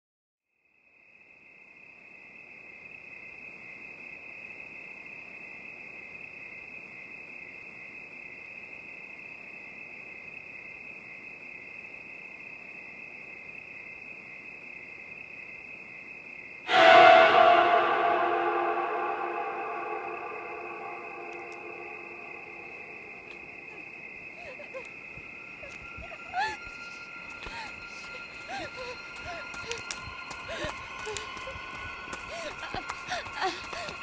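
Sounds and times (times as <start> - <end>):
crickets trilling: 0.7 - 17.0, 18.4 - 34.0.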